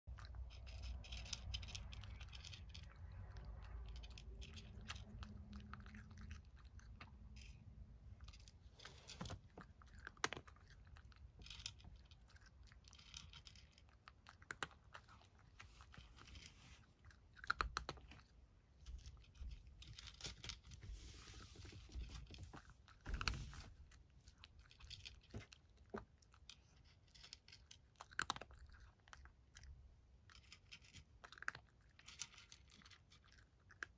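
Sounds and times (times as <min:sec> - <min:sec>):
cat chewing dry kibble: 0:00.0 - 0:33.9.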